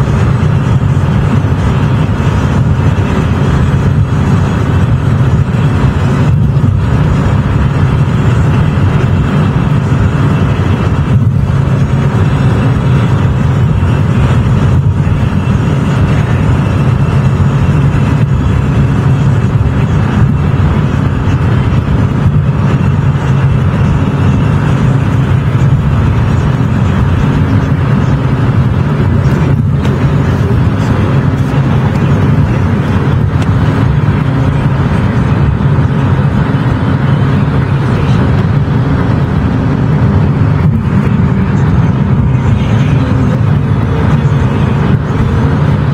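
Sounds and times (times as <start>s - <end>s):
car engine: 0.0s - 45.9s
road noise: 0.0s - 45.9s.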